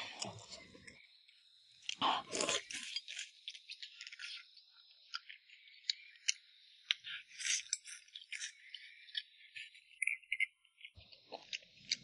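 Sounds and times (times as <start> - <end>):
person chewing crunchy food: 1.8 - 12.0.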